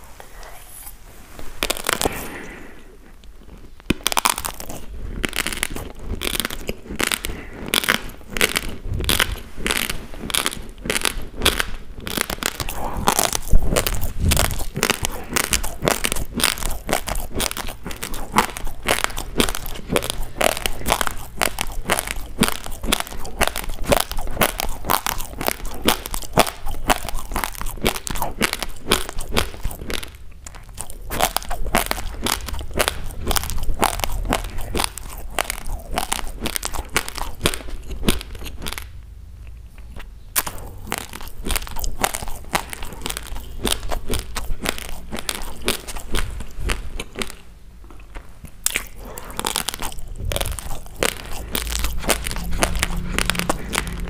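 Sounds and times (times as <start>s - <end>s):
crunching dry rice grains: 1.6s - 39.0s, 39.8s - 54.0s.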